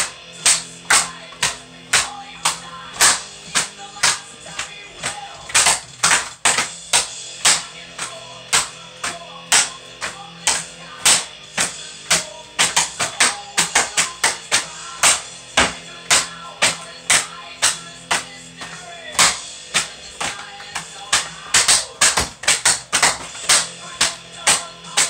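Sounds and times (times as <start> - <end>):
drumming with cardboard tubes: 0.0 - 25.0.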